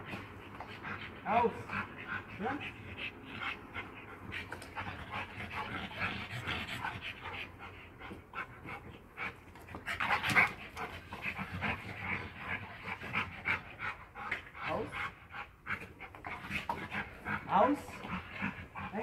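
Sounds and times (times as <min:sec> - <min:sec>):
dogs panting: 0:00.0 - 0:19.0.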